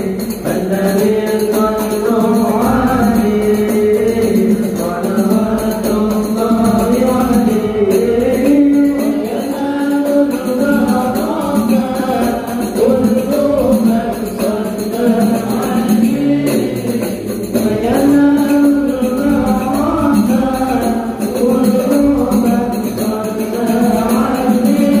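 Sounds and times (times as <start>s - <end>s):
devotional song singing: 0.0s - 25.0s
hand percussion beat: 0.0s - 25.0s.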